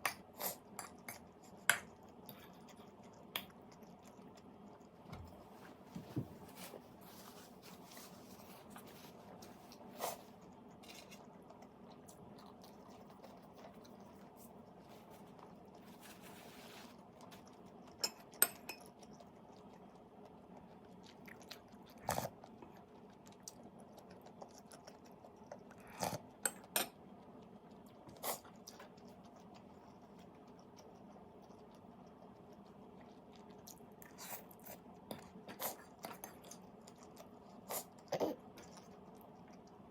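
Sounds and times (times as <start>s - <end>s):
faint steady hum: 0.0s - 39.9s
person chewing: 0.1s - 5.5s, 8.4s - 15.9s, 16.9s - 39.9s.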